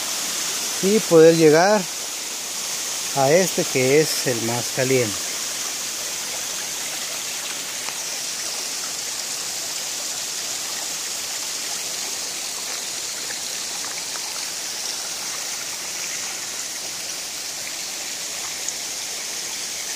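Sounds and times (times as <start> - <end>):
water rushing into stone pools: 0.0 - 19.9.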